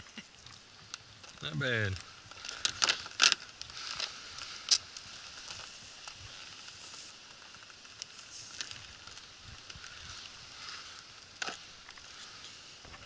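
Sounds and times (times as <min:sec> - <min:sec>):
small crackles: 0:00.0 - 0:13.0
net rustling on wooden boards: 0:00.6 - 0:13.0.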